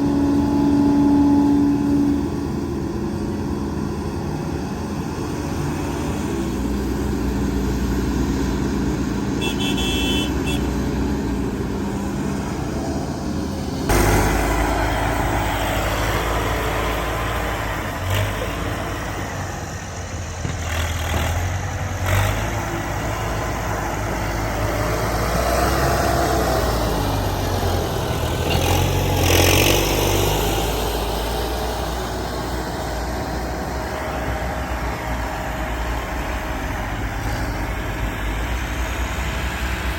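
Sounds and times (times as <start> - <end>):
diesel excavator and trucks running: 0.0 - 39.9.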